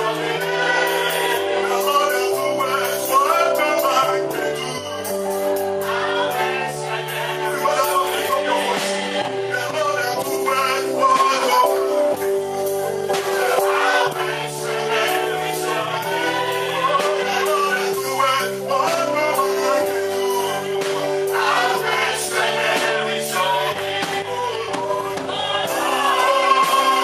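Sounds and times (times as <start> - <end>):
gospel singing with instruments: 0.0 - 27.0.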